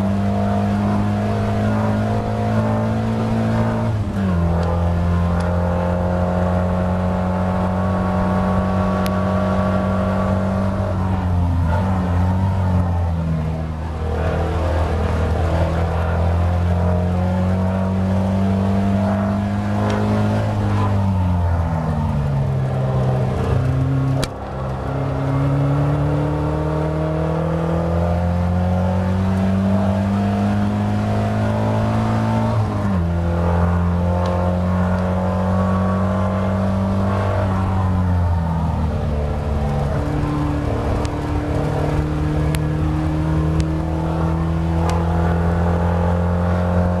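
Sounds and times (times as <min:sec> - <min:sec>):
car engine accelerating: 0:00.0 - 0:47.0.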